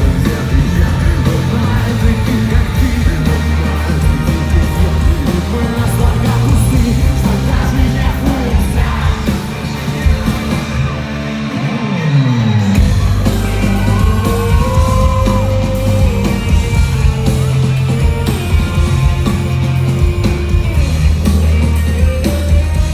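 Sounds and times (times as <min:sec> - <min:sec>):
rock band playing live: 0:00.0 - 0:22.9.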